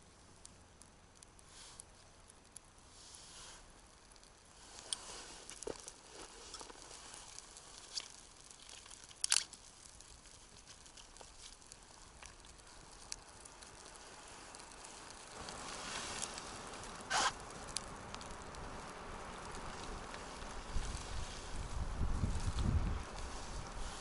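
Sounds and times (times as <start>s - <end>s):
campfire crackling and popping: 0.0s - 24.0s
sharp snaps of fire: 0.0s - 24.0s.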